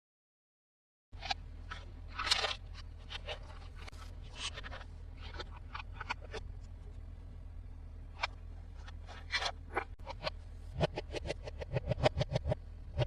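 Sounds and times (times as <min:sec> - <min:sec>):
low steady hum: 0:01.2 - 0:13.0.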